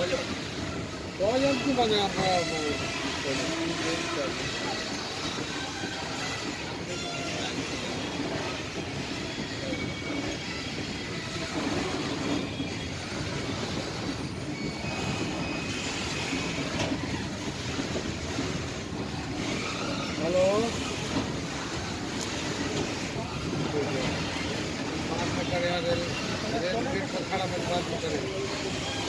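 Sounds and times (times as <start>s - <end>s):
high wheel squeals: 0.0s - 29.0s
train wheels rumbling on rails: 0.0s - 29.0s.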